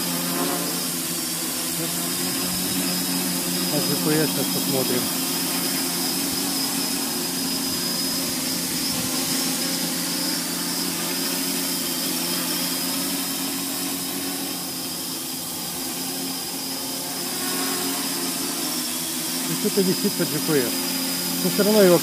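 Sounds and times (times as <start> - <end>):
quadcopter buzzing whine: 0.0 - 22.0.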